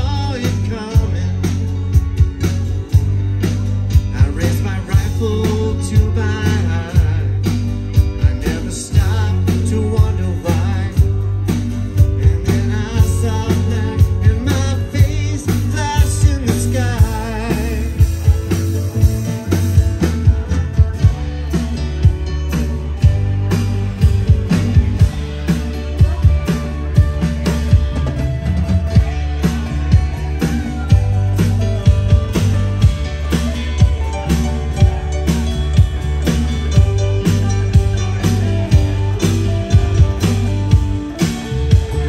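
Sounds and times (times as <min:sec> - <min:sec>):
drums keeping steady beat: 0:00.0 - 0:42.0
live rock band: 0:00.0 - 0:42.0.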